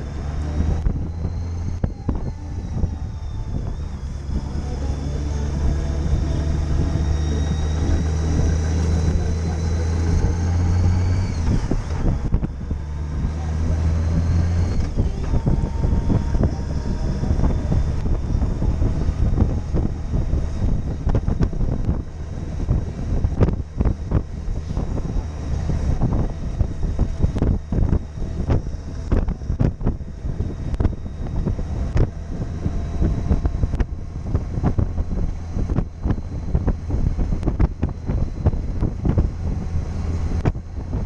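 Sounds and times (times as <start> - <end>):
motorcycle engine and tyres hum: 0.0 - 41.0
wind buffeting microphone: 0.0 - 41.0.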